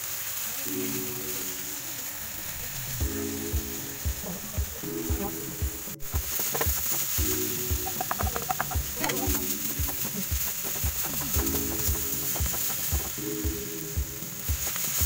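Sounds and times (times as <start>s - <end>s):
tofu sizzling in oil: 0.0s - 4.1s, 4.8s - 15.0s
background music with steady beat: 0.7s - 15.0s.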